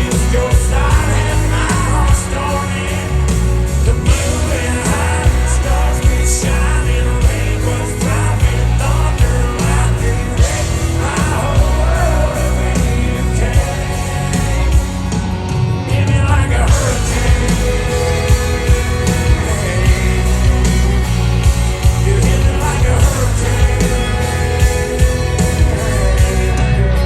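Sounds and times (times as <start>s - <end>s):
man singing: 0.0s - 15.2s, 15.9s - 27.0s
country band playing: 0.0s - 27.0s.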